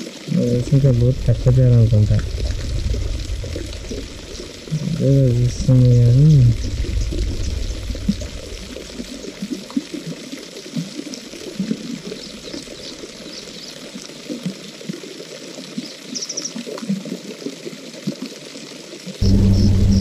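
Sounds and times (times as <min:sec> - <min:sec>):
water trickling and splashing: 0:00.0 - 0:19.3.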